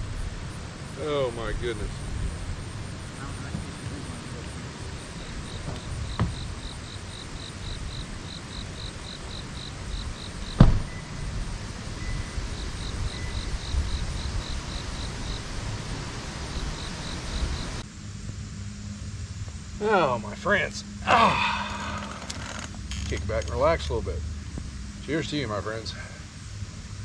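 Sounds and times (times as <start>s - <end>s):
insect chirping: 0.0s - 27.0s
outdoor hiss: 0.0s - 27.0s.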